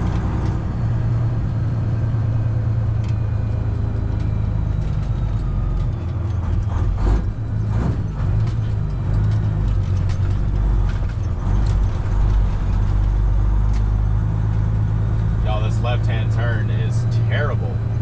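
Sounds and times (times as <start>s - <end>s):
diesel truck engine humming: 0.0s - 18.0s.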